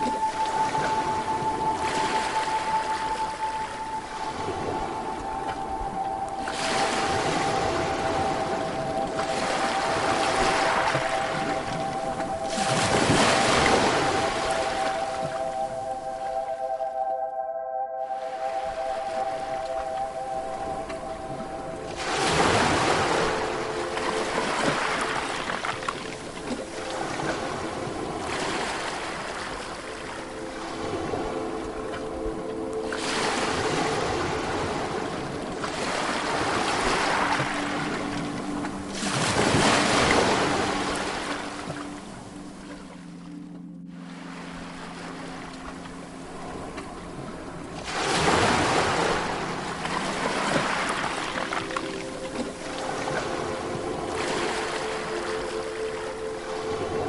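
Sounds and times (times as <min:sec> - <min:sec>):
waves breaking on a beach: 0:00.0 - 0:16.8, 0:18.2 - 0:57.0.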